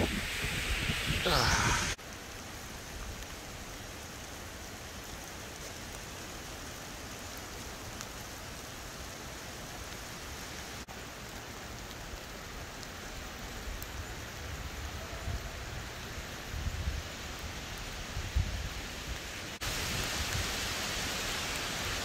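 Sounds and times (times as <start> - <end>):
wind and rain in conifers: 0.0 - 22.0.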